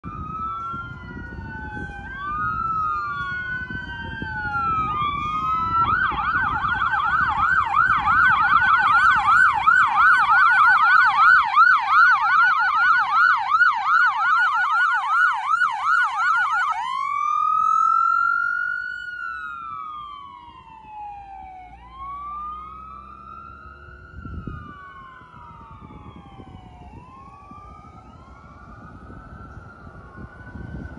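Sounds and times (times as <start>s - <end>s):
ambulance siren wail and yelp: 0.0s - 30.9s.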